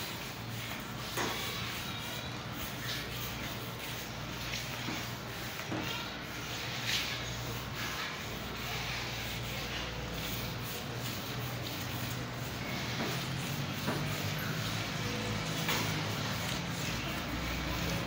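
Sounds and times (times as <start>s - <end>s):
wire brush scrubbing tiles: 0.0s - 18.0s.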